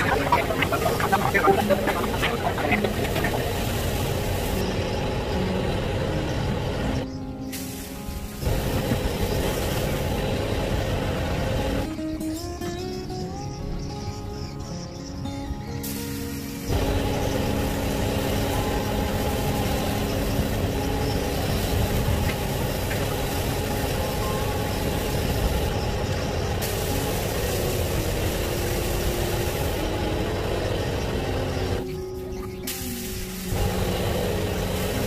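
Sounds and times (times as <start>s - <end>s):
motor engine running: 0.0s - 7.1s, 8.4s - 11.9s, 16.7s - 35.0s.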